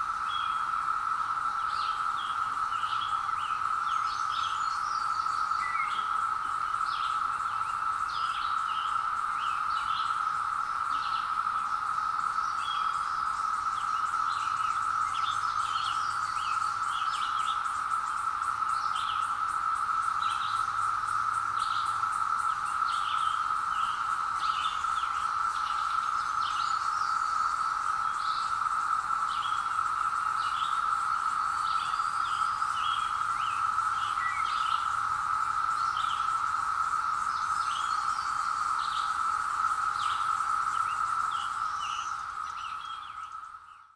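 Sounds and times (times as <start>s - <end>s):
cicadas droning: 0.0s - 43.9s
songbirds chirping: 0.0s - 43.9s.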